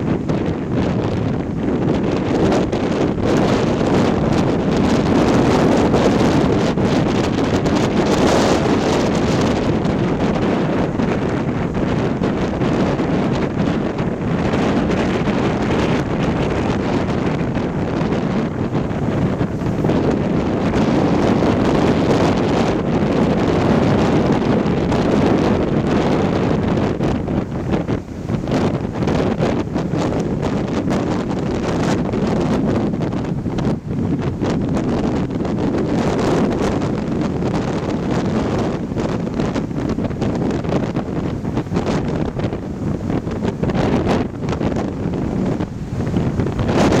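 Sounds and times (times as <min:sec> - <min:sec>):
surf breaking on shore: 0:00.0 - 0:47.0
wind buffeting microphone: 0:00.0 - 0:47.0.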